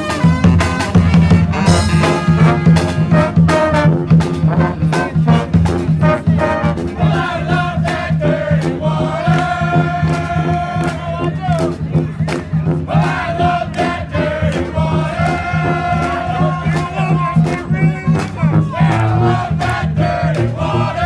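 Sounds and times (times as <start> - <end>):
brass band playing lively tune: 0.0 - 21.0
steady drum beat: 0.0 - 21.0.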